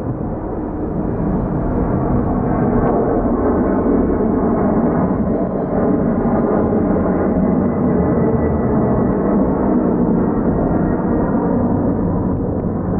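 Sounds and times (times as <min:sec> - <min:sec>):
jet engines roaring: 0:00.0 - 0:12.9.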